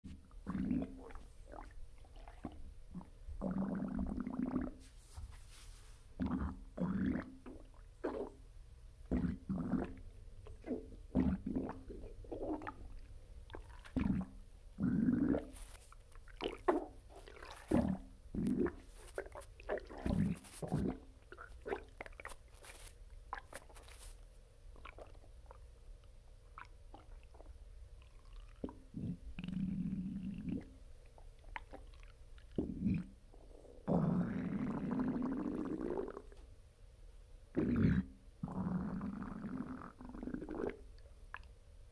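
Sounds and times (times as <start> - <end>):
stomach gurgling and rumbling: 0.1 - 4.8, 6.2 - 8.4, 9.0 - 24.1, 24.8 - 25.7, 26.5 - 36.4, 37.5 - 41.5.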